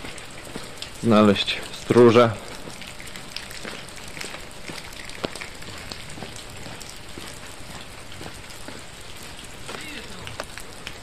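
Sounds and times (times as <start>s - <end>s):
steady rain patter: 0.0s - 11.0s.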